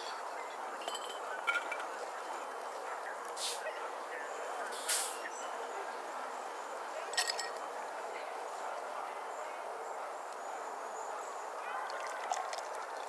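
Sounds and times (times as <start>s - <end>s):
murmur of distant voices: 0.0s - 13.0s.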